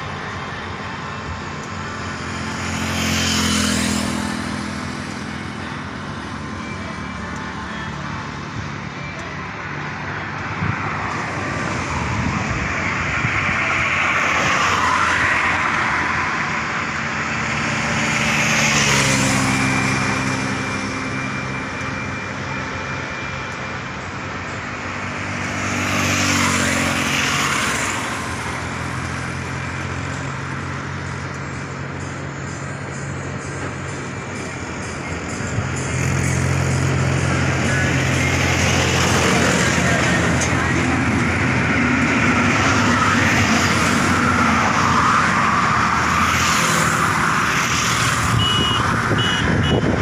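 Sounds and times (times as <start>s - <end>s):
tractor diesel engine: 0.0s - 50.0s
vehicles passing on highway: 0.0s - 50.0s.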